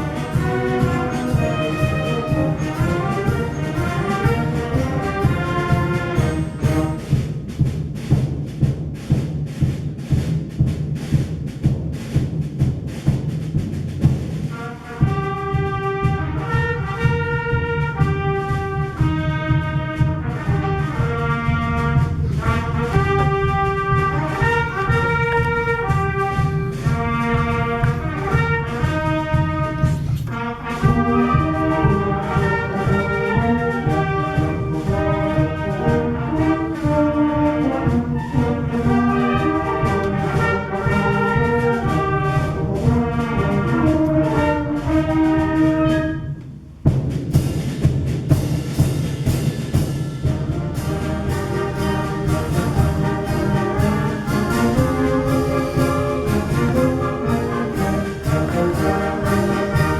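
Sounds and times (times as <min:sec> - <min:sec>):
concert band brass: 0:00.0 - 0:59.9
percussion beat: 0:00.0 - 0:59.9.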